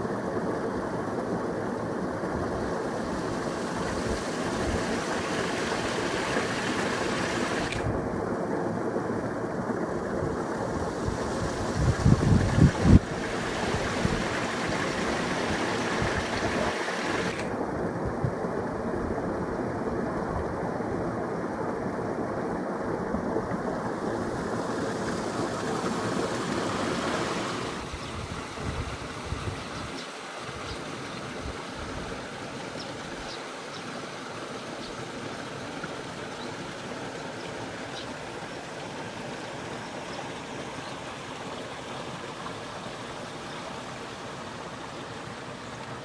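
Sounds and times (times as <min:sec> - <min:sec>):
spring water rushing: 0:00.0 - 0:46.0.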